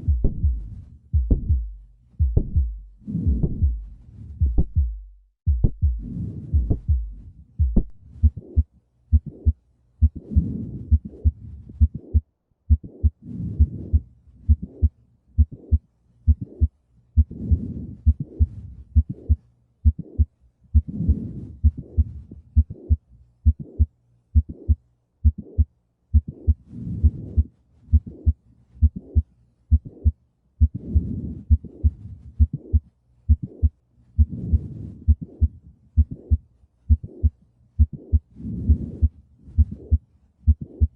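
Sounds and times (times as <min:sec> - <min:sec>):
heart click: 0:00.0 - 0:40.9
heart murmur: 0:00.0 - 0:40.9
heartbeat: 0:00.0 - 0:40.9.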